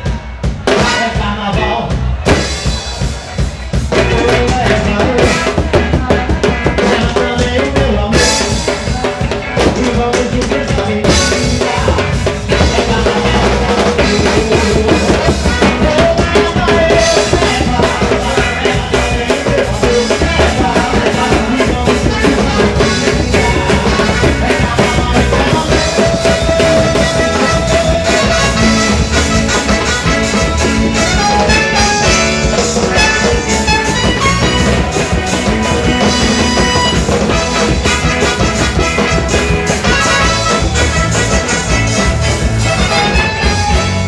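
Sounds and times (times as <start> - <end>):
carnival music with drum kit: 0.0 - 44.0.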